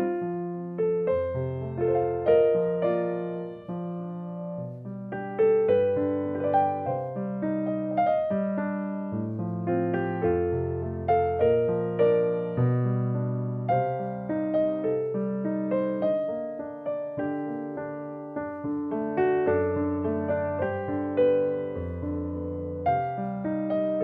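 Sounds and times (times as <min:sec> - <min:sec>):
slow gentle piano melody: 0:00.0 - 0:24.0.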